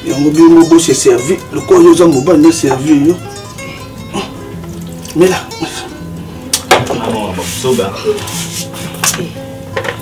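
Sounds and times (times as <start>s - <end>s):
soft plucked string music: 0.0s - 10.0s.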